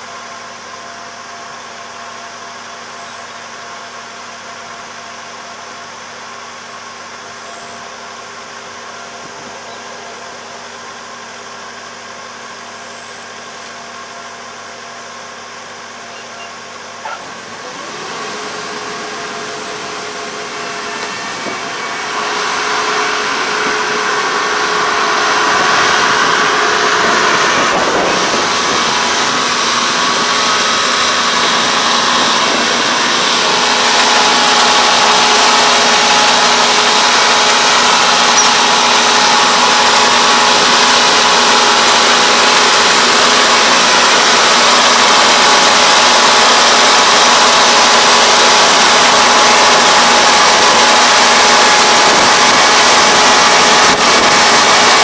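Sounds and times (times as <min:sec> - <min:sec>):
broad rushing machine noise: 0:00.0 - 0:55.0
harvester engine running: 0:00.0 - 0:55.0.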